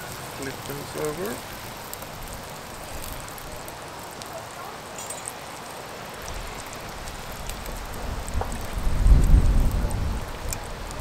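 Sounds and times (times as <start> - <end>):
sausages sizzling in a pan: 0.0 - 11.0.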